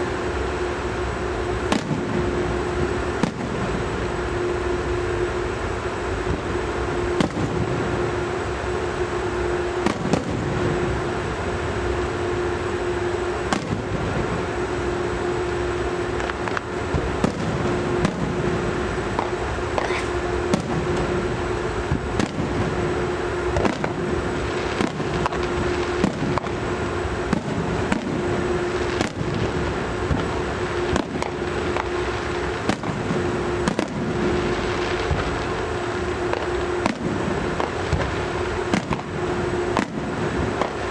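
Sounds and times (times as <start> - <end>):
background rumble: 0.0 - 40.9
fireworks booming: 0.0 - 40.9
low steady hum: 0.0 - 40.9.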